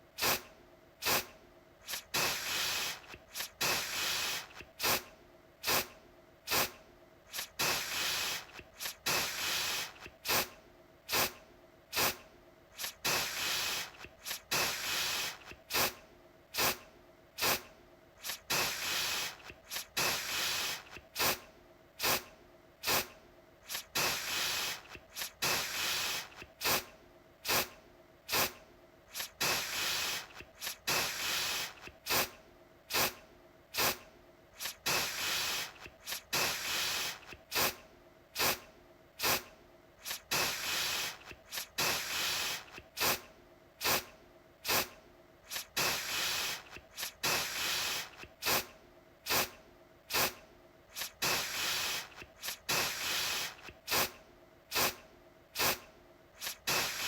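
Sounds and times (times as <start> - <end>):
aerosol spray bursts: 0.2 - 5.9, 6.5 - 12.2, 12.8 - 16.8, 17.4 - 21.4, 22.0 - 34.0, 34.6 - 37.8, 38.4 - 38.6, 39.2 - 55.0, 55.6 - 55.8, 56.4 - 57.0.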